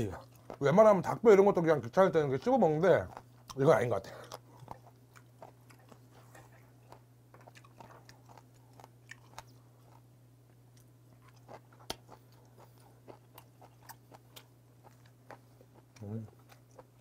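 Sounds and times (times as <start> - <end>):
faint chewing: 0.0 - 1.2, 2.0 - 17.0
steady low hum: 0.0 - 17.0.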